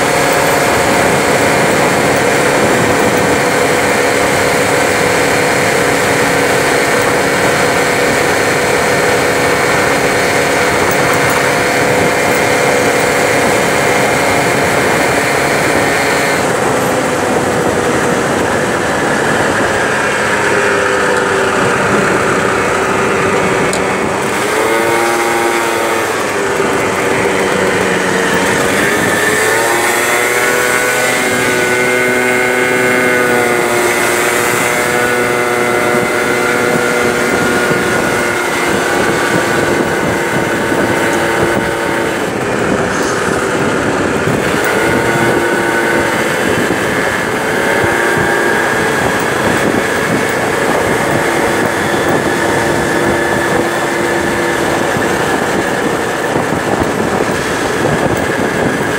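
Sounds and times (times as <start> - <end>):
scooter engine running: 0.0 - 58.9
wind and road noise: 0.0 - 58.9.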